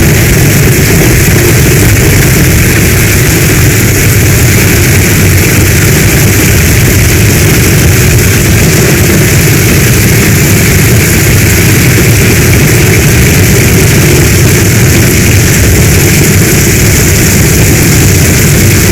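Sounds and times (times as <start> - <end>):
deep rumble: 0.0 - 18.9
heavy rain pouring: 0.0 - 18.9.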